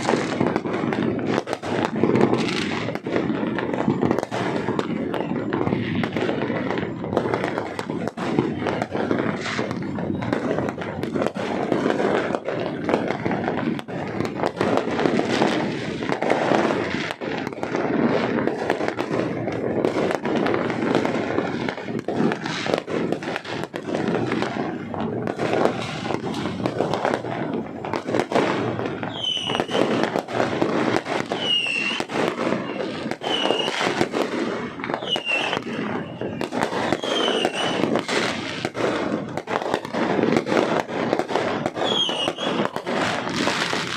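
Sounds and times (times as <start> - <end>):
falling firework whistles: 0.0 - 43.9
fireworks bangs and crackles: 0.0 - 43.9.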